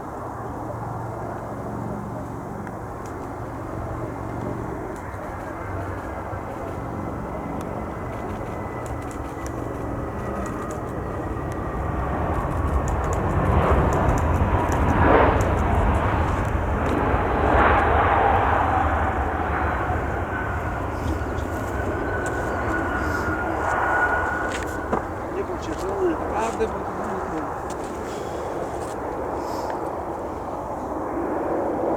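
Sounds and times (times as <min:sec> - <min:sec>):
jet airliner engines rushing: 0:00.0 - 0:31.9.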